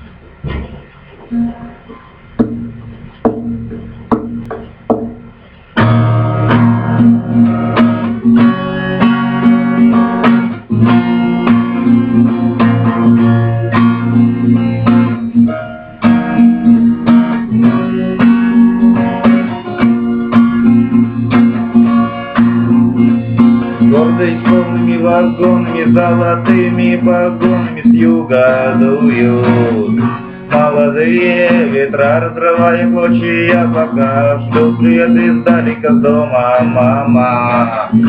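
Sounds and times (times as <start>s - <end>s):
guitar chords strummed: 0.5s - 38.0s.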